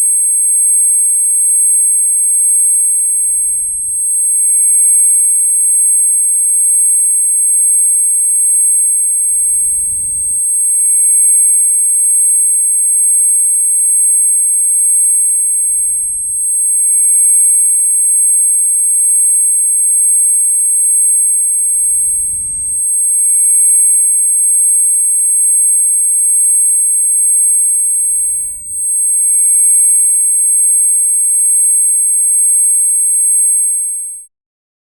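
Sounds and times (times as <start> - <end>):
high-pitched ringing tone: 0.0 - 34.3.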